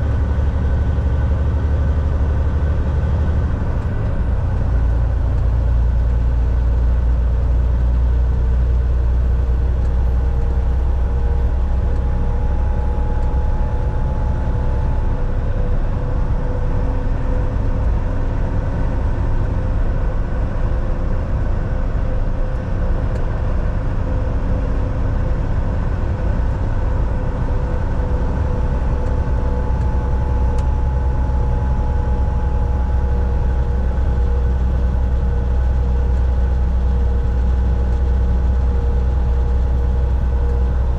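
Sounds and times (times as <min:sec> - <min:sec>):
truck engine and road drone: 0:00.0 - 0:40.9.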